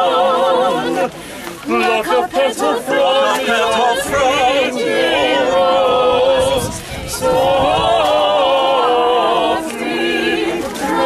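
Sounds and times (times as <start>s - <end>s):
group singing a cappella: 0.0s - 11.0s.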